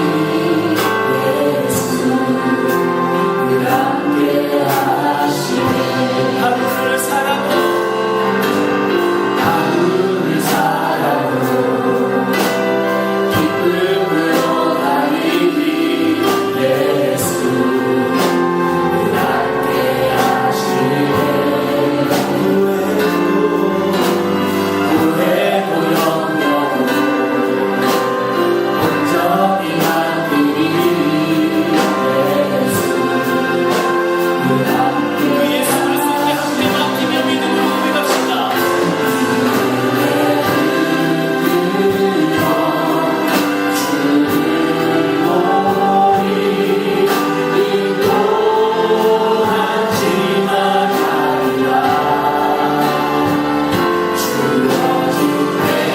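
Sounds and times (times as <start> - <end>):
choir singing gospel music: 0.0 - 55.9.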